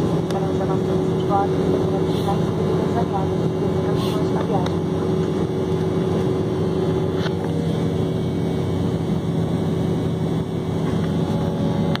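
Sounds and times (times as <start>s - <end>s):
constant low hum: 0.0s - 12.0s
jet airliner cabin drone: 0.0s - 12.0s.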